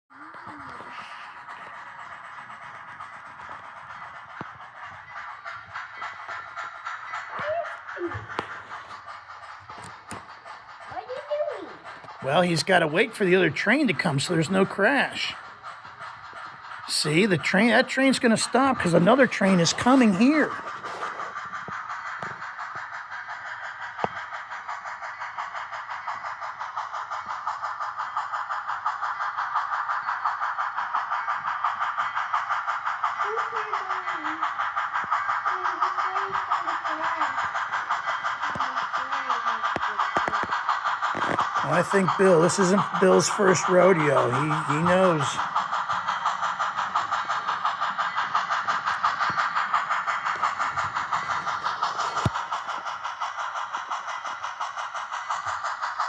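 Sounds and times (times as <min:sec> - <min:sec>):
model steam locomotive chuffing: 0:00.1 - 0:56.0.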